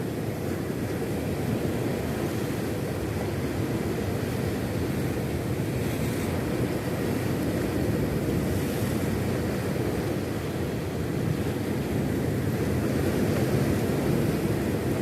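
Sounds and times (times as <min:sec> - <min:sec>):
water rushing past boat: 0:00.0 - 0:15.0.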